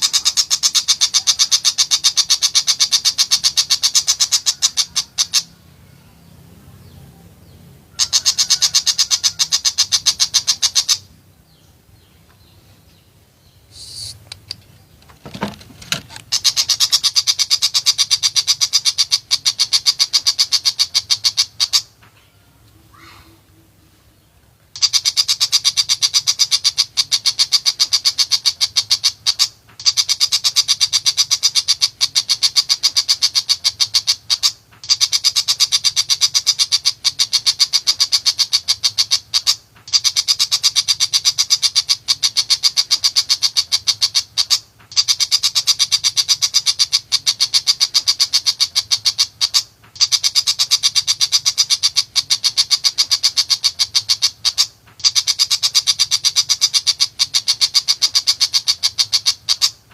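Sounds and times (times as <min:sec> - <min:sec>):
bird harsh chatter: 0:00.0 - 0:22.0, 0:22.8 - 0:24.2, 0:24.8 - 0:59.9.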